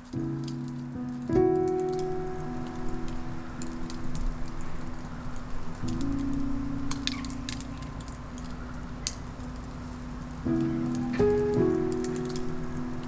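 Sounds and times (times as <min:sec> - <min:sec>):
soft background music: 0:00.0 - 0:13.0
wood fire crackling: 0:00.0 - 0:13.0.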